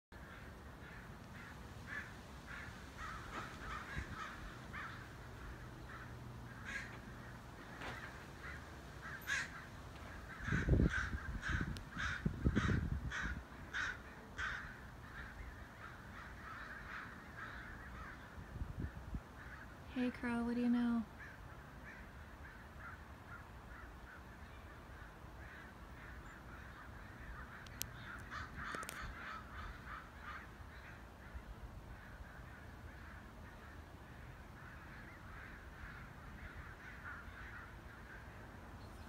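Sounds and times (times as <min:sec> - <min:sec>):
crows cawing: 0:00.2 - 0:19.8, 0:21.1 - 0:38.5.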